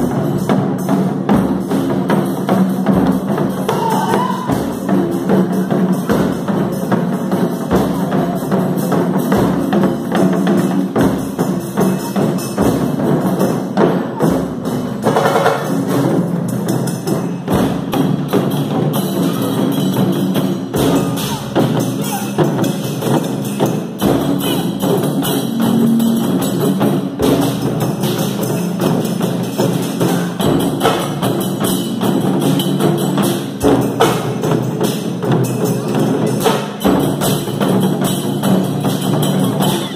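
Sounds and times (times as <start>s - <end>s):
taiko drum ensemble playing: 0.0s - 39.9s.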